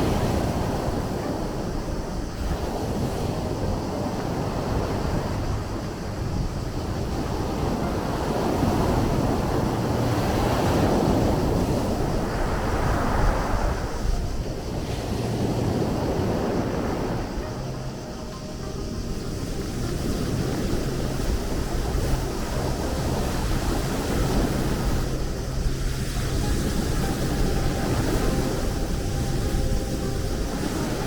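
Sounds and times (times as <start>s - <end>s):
sea waves washing in: 0.0s - 31.0s.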